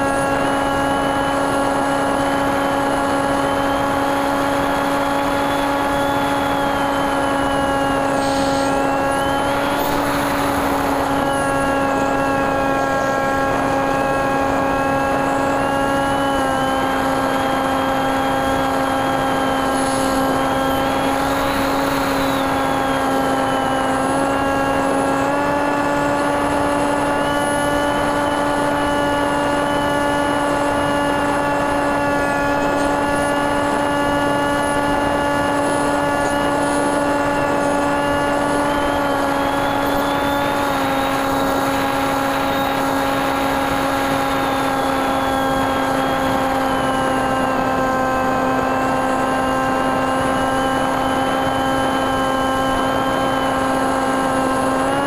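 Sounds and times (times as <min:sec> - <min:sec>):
faint high whine: 0:00.0 - 0:55.0
propeller drone: 0:00.0 - 0:55.0.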